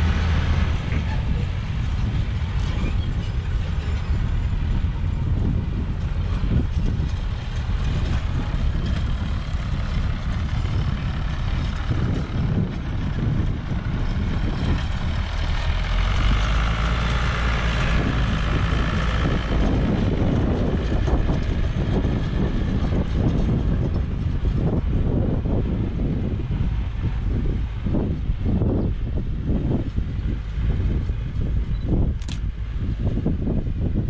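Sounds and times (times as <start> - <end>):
diesel engine rumbling: 0.0 - 34.0.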